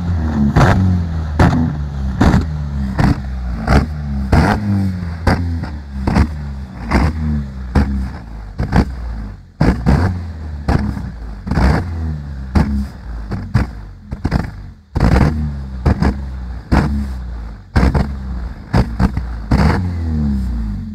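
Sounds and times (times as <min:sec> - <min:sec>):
car engine revving: 0:00.0 - 0:20.9
exhaust bangs: 0:00.0 - 0:20.9.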